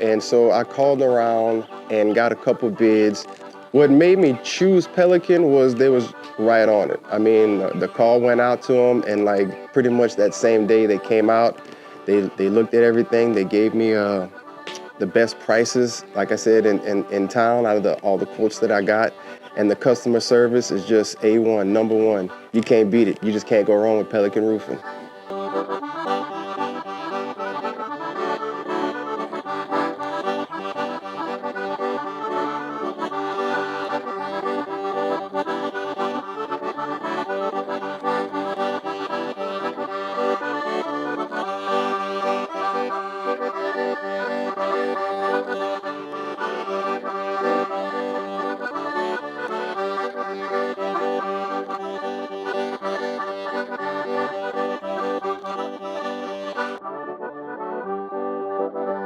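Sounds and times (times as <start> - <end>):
accordion-led zydeco music: 0.0 - 59.0.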